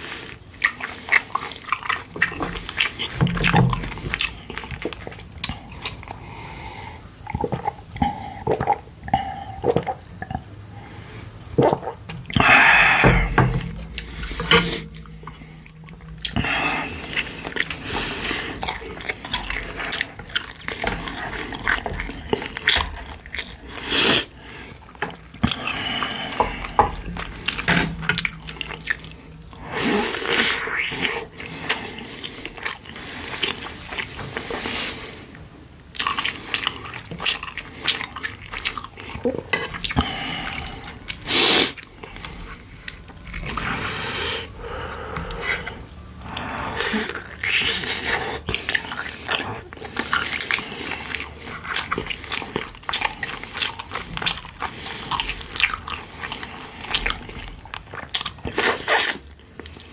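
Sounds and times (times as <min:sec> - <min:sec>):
slurping broth: 0:00.0 - 0:35.4, 0:36.0 - 0:59.9
wet chewing: 0:00.0 - 0:59.9.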